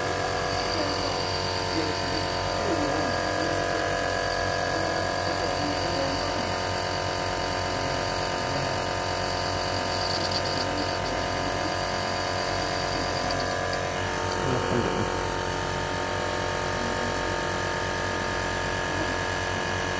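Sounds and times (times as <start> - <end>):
nebulizer compressor motor hum: 0.0 - 19.9.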